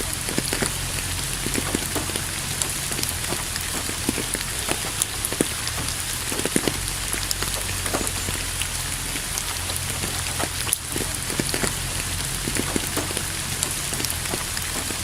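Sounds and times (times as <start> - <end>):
low steady rumble: 0.0 - 15.0
raindrops striking close by: 0.0 - 15.0
steady rain hiss: 0.0 - 15.0.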